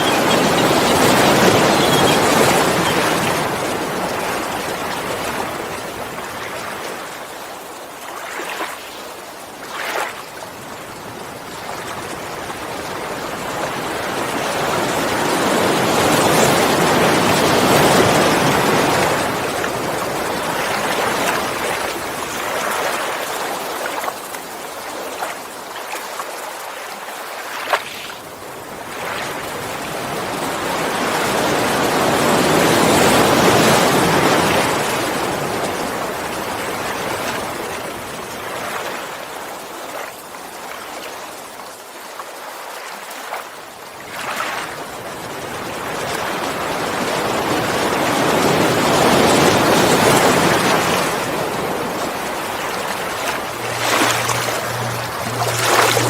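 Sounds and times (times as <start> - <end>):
sea waves washing ashore: 0.0 - 56.0.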